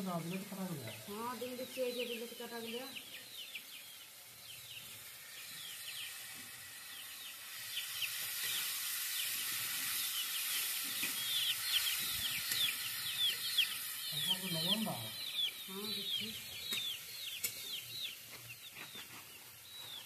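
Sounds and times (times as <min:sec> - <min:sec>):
food sizzling in a wok: 0:00.0 - 0:18.7
small birds chirping: 0:00.0 - 0:20.0.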